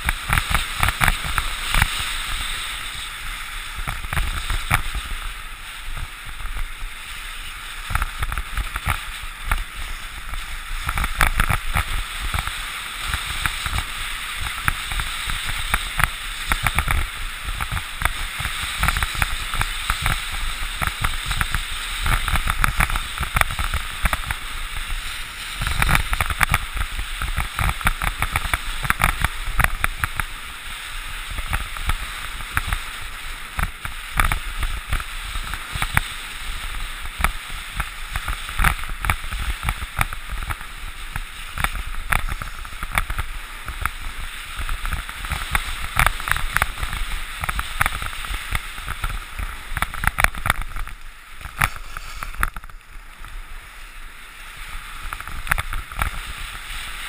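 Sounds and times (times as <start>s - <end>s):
skis hissing over snow: 0.0s - 57.0s.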